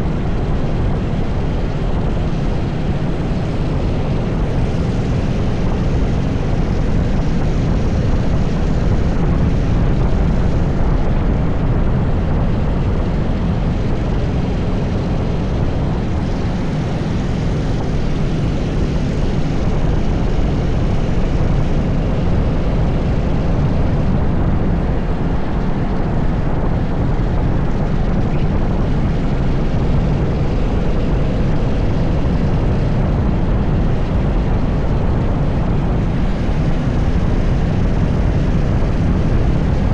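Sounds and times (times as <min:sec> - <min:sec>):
go-kart engine running: 0:00.0 - 0:39.9
wind noise on microphone: 0:00.0 - 0:39.9.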